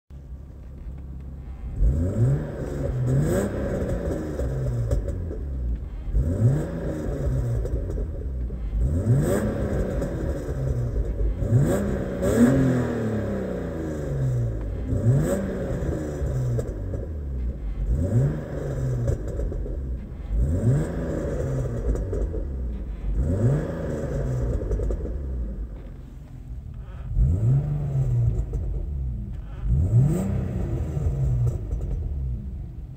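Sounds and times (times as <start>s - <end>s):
car engine revving: 0.2s - 32.9s.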